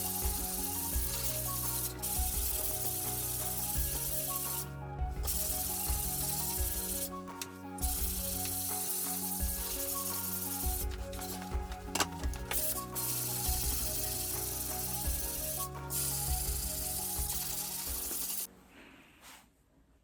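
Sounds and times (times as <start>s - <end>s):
background music with sustained notes: 0.0s - 18.8s.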